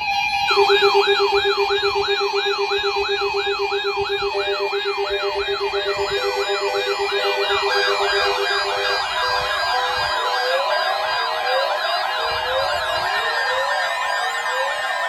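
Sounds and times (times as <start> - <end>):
electronic siren falling sweeps: 0.1 - 15.0.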